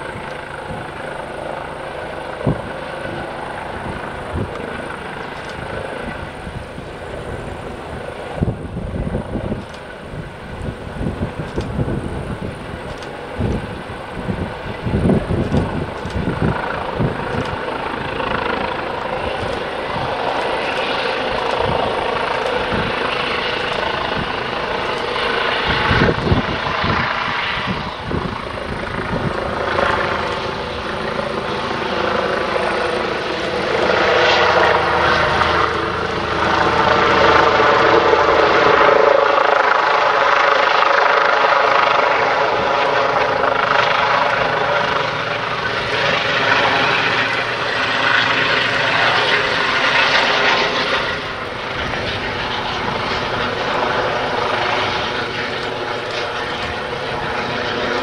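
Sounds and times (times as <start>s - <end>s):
helicopter whine and hum: 0.0s - 58.0s.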